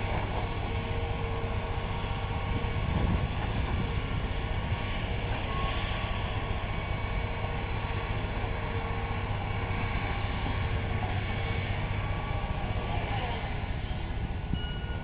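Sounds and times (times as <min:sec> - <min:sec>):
distant excavator engine rumbling: 0:00.0 - 0:15.0.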